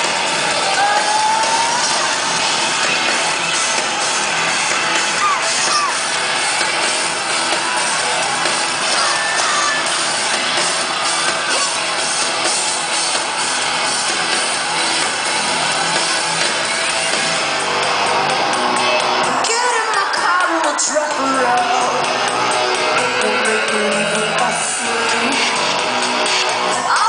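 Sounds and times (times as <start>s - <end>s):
crowd shouting and singing: 0.0s - 27.0s
live rock band playing: 0.0s - 27.0s.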